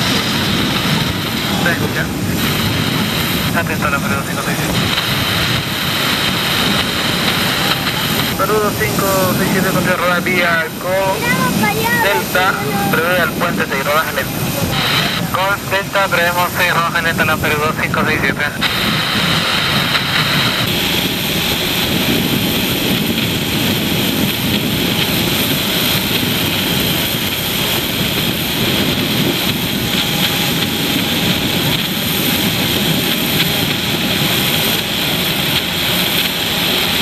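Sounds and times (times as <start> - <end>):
jet engines idling: 0.0 - 37.0.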